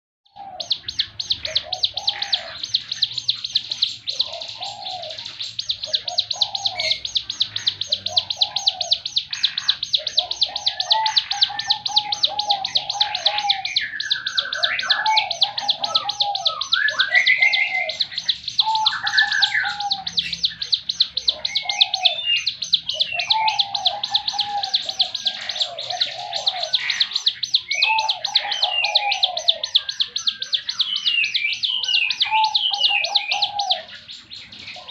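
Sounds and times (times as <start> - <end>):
bird ticking song: 0.3 - 34.9
bird warbles and rising whistles: 0.3 - 34.9.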